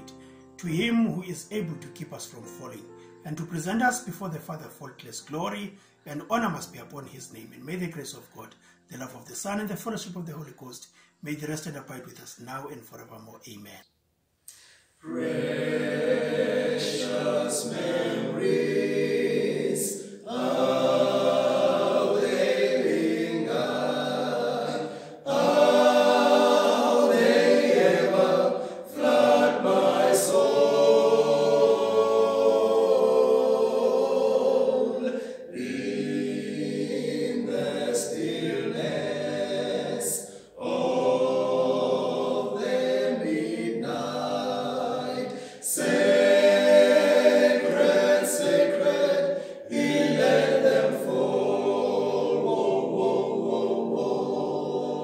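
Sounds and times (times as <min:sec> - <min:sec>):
male choir singing a hymn: 0:00.0 - 0:10.6, 0:15.0 - 0:55.0.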